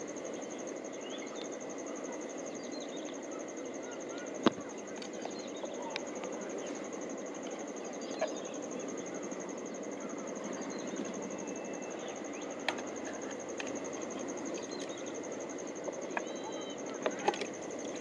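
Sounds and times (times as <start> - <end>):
pulsing insect trill: 0.0 - 18.0.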